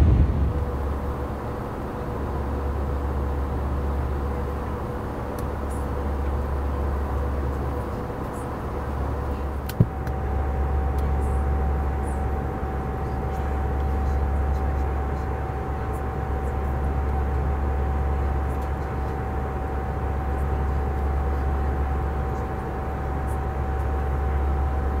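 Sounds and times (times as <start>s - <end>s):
airliner cabin drone: 0.0s - 25.0s
faint steady hum: 0.0s - 25.0s.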